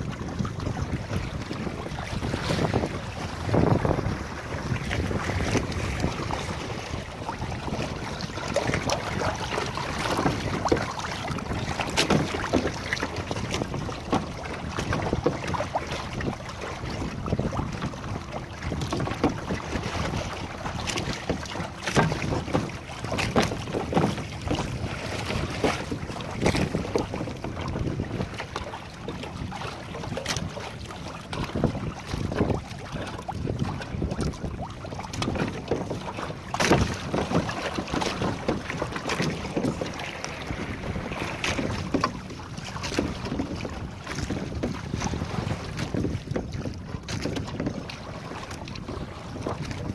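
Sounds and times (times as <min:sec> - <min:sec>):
water lapping against hull: 0:00.0 - 0:49.9
water splashes: 0:00.0 - 0:49.9
wind buffeting microphone: 0:00.0 - 0:49.9.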